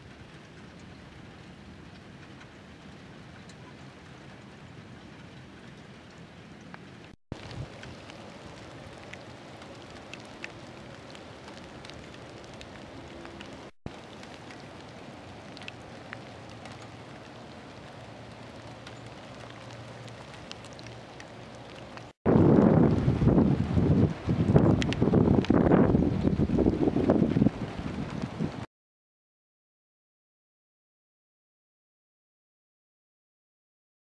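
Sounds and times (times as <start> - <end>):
freezing rain falling: 0.0 - 28.7
wind rumbling on microphone: 0.0 - 28.7.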